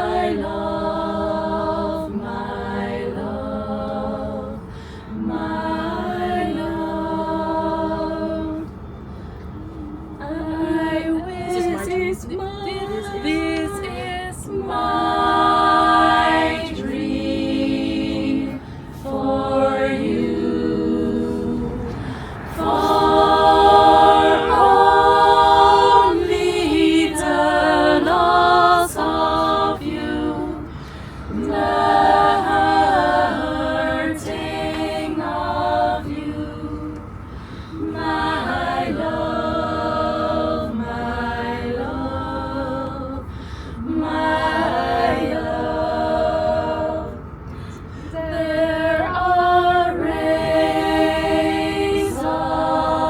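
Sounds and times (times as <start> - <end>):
choir singing a cappella: 0.0 - 53.0
train carriage rumble: 0.0 - 53.0.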